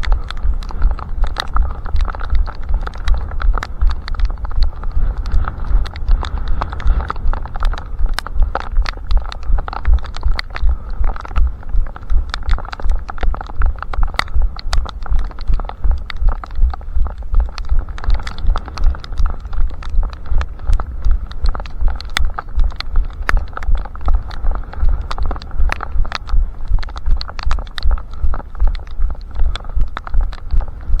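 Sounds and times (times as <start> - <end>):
sharp clicks: 0.0 - 31.0.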